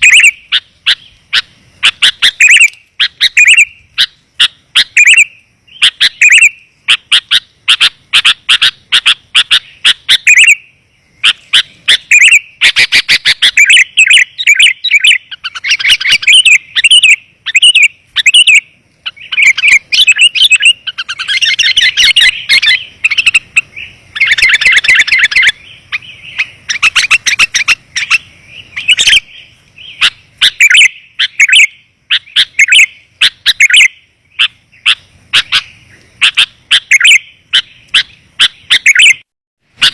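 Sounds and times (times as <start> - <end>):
bulbul chirping: 0.0 - 39.2.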